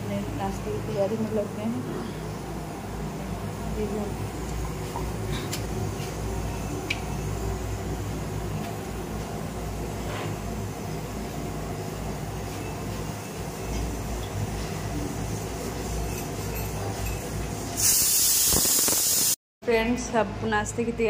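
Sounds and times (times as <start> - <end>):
gas burner rumbling: 0.0 - 19.4.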